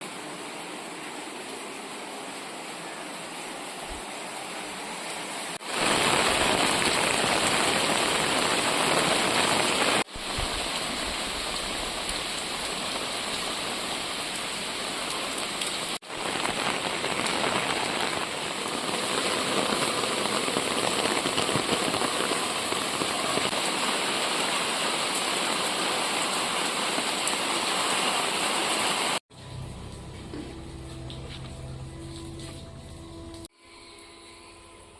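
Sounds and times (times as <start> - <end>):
heavy rain falling: 0.0 - 32.8.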